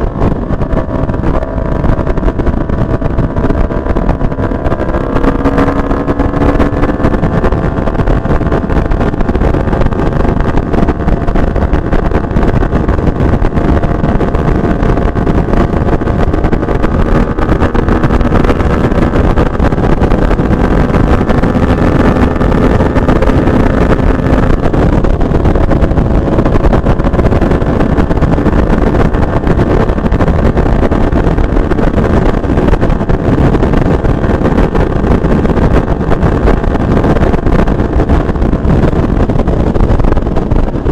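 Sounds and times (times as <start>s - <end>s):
motorcycle engine at speed: 0.0s - 40.9s
wind rushing over microphone: 0.0s - 40.9s.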